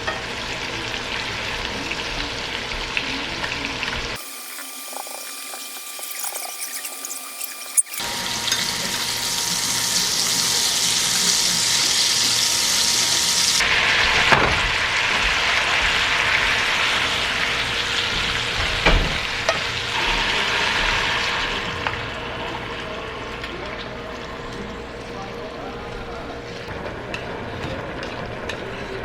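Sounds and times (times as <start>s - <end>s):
food sizzling in a frying pan: 0.0s - 24.3s.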